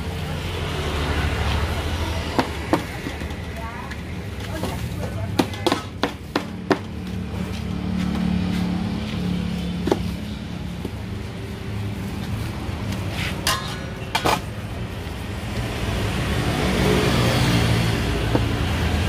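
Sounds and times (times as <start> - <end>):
vehicle passing: 0.0 - 5.3, 6.6 - 14.0, 14.8 - 19.0
road traffic: 0.0 - 19.0.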